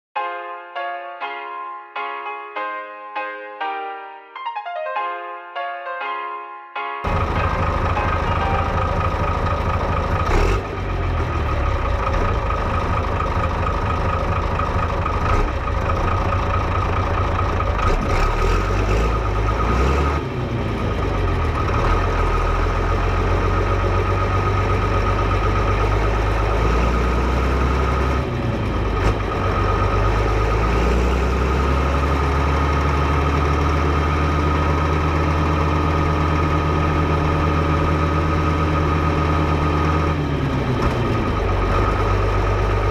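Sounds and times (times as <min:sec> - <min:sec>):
tractor diesel engine running: 0:07.0 - 0:42.9.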